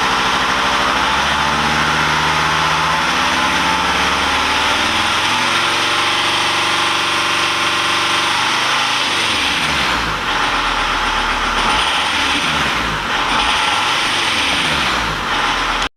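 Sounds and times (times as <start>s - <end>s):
van engine running: 0.0s - 15.9s.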